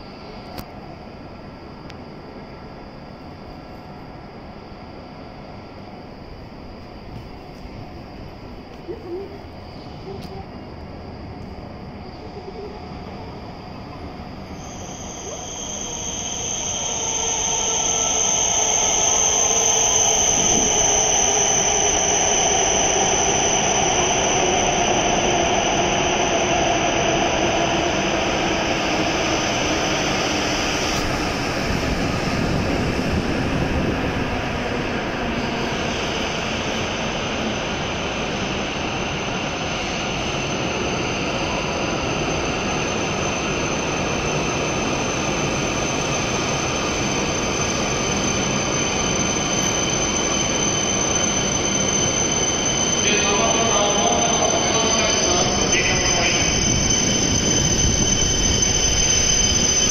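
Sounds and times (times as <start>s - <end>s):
high train whine: 0.0s - 59.9s
train rushing past: 9.4s - 59.9s.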